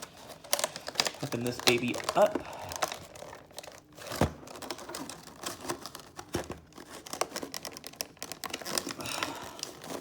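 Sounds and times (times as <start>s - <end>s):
cardboard crinkling and scraping: 0.0s - 10.0s.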